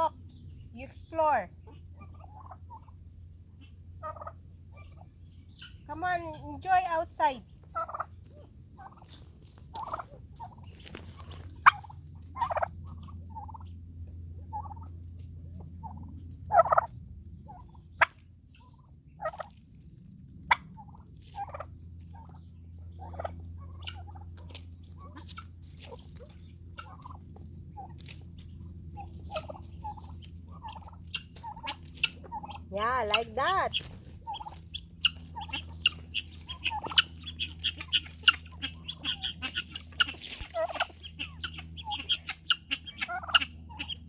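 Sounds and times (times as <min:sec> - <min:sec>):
turkeys calling: 0:00.0 - 0:44.0.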